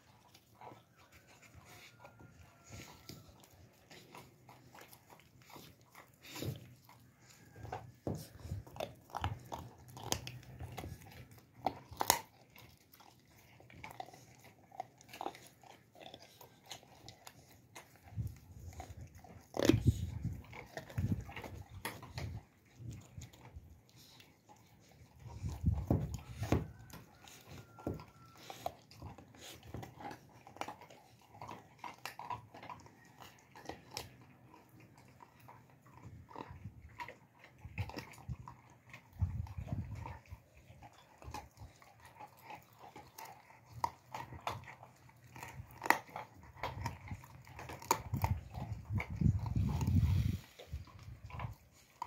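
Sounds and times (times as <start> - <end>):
puppy chewing raw meat: 0.0 - 52.0.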